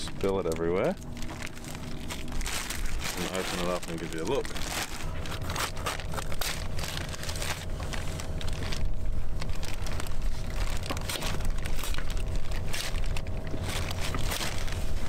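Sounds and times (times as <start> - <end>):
low steady rumble: 0.0 - 15.0
plastic bag crinkling: 0.0 - 15.0.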